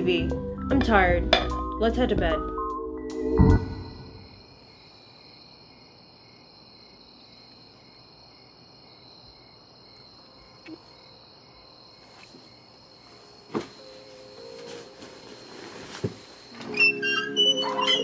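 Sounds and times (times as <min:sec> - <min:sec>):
crickets chirping: 0:03.4 - 0:18.0.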